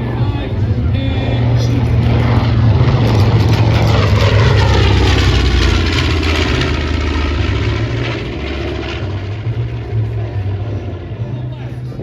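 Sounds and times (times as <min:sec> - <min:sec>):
propeller plane flyby: 0:00.0 - 0:12.0.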